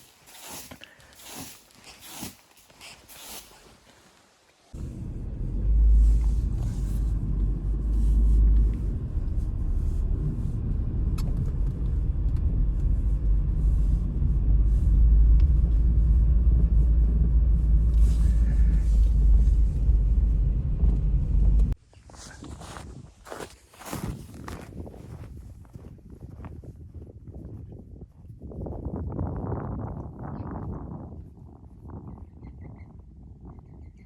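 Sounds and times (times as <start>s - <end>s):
wind buffeting microphone: 4.8s - 21.8s, 22.4s - 34.0s.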